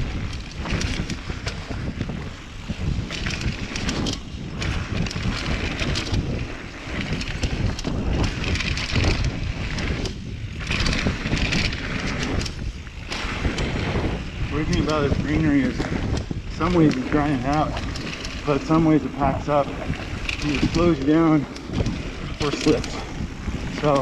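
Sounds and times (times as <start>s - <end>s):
bike clicks and rattles: 0.0s - 24.0s
wind buffeting microphone: 0.0s - 24.0s.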